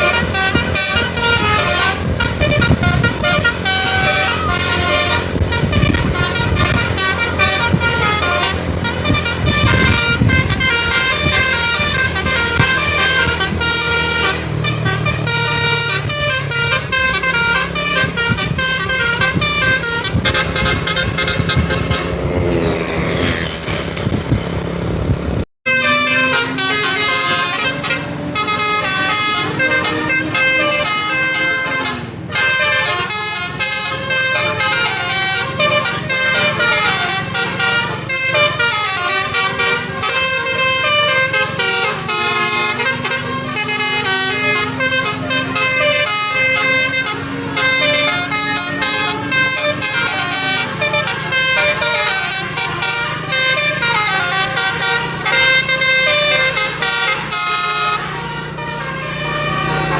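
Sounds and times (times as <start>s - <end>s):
musical air horn melodies: 0.0s - 24.3s, 25.6s - 59.9s
bus engine revving: 0.0s - 59.9s.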